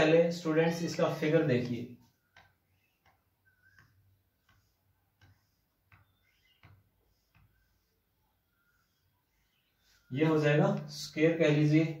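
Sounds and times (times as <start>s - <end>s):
marker tapping and scraping on whiteboard: 0.0s - 12.0s.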